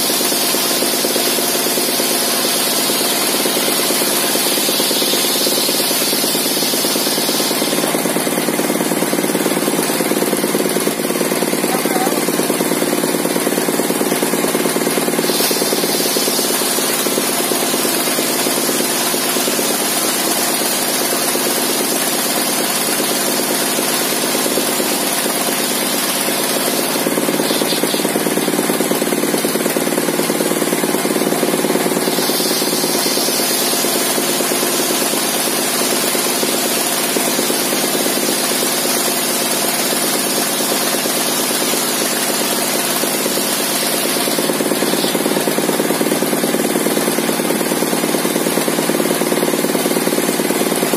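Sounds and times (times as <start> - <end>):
circular saw cutting planks: 0.0 - 50.9.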